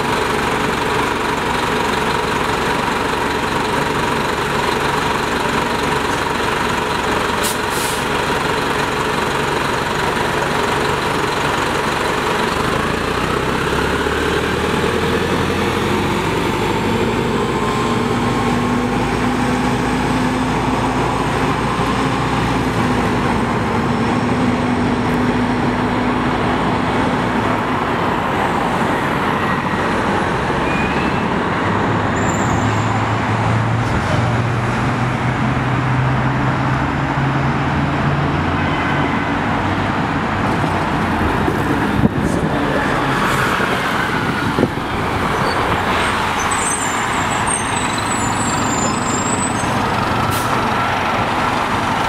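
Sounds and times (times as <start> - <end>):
diesel bus idling: 0.0 - 33.8, 34.8 - 52.0
bus pulling away with whine: 0.0 - 52.0.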